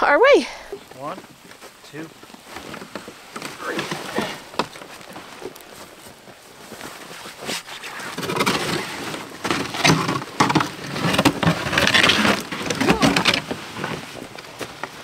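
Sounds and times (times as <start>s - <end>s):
sled scraping through snow: 1.0s - 15.0s.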